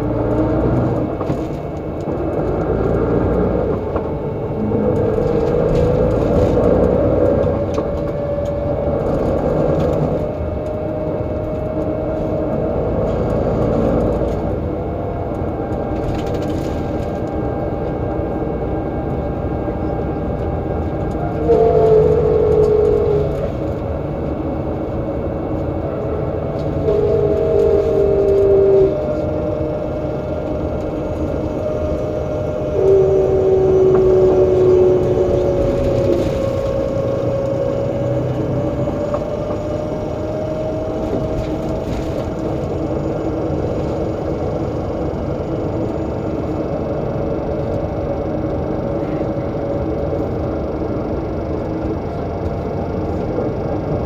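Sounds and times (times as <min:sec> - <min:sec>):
diesel bus engine whine: 0:00.0 - 0:54.0.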